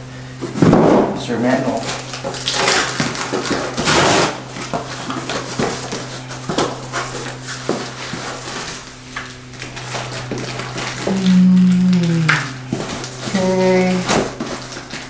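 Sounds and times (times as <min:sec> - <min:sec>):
steady low hum: 0:00.0 - 0:15.0
cardboard and packaging rustling: 0:00.4 - 0:15.0.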